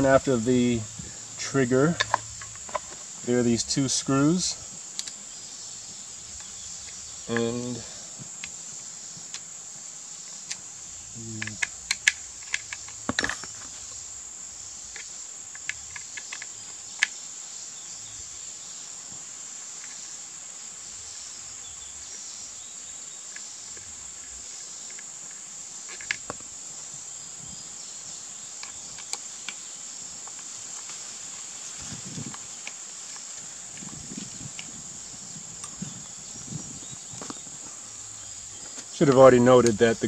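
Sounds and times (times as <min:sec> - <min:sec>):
insects calling: 0:00.0 - 0:40.0.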